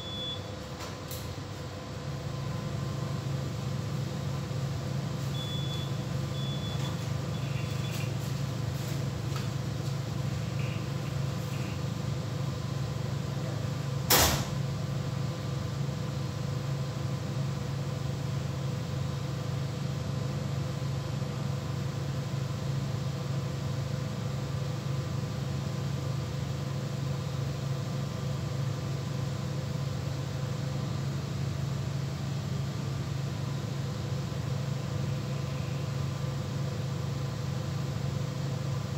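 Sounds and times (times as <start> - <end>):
low machinery hum: 0.0 - 38.9.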